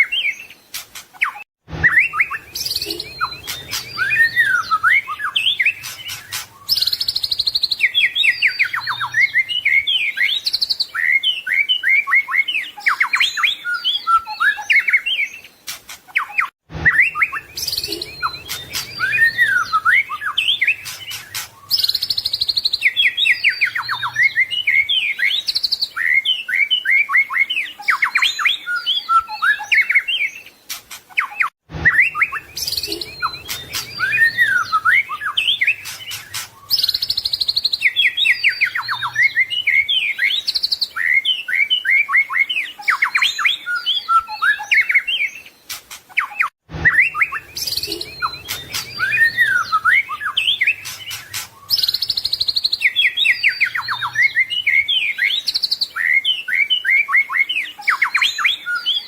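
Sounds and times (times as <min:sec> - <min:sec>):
bird singing whistles and trills: 0:00.0 - 0:59.0.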